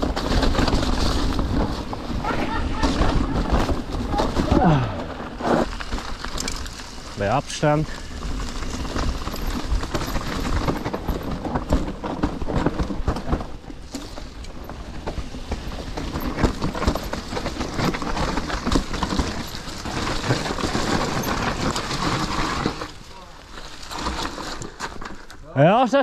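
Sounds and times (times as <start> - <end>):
bike tyres knocking over rocks: 0.0 - 25.5
bike chain and frame rattling: 0.0 - 26.0.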